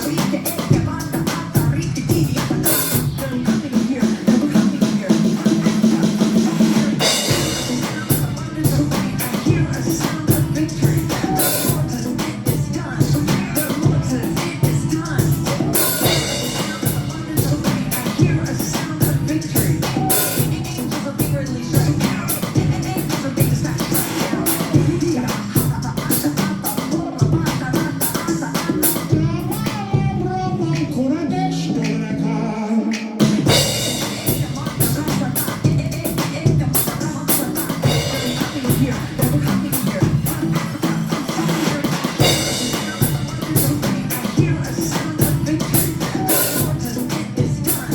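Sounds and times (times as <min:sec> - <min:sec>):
drum beat: 0:00.0 - 0:30.9, 0:33.0 - 0:47.9
bass line: 0:00.0 - 0:47.9
singing: 0:00.0 - 0:47.9
upbeat worship music: 0:00.0 - 0:47.9.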